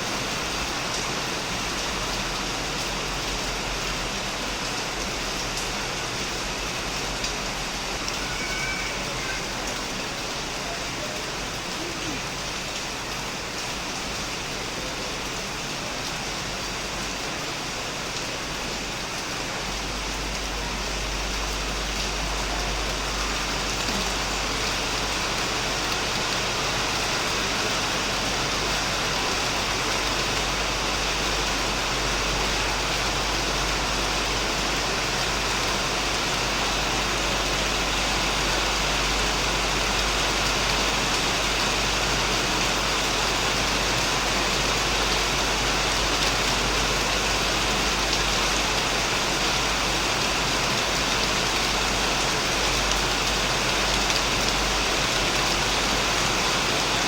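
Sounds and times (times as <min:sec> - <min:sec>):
heavy rain on a shed roof: 0:00.0 - 0:57.0.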